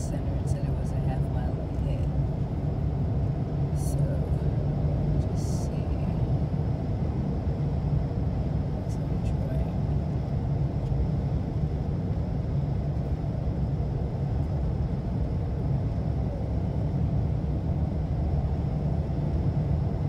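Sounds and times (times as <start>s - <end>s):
road and engine noise in car: 0.0s - 20.0s.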